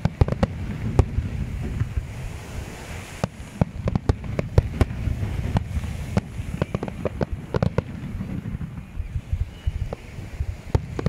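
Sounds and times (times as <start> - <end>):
fireworks bangs and cracks: 0.0 - 9.0, 9.9 - 11.0.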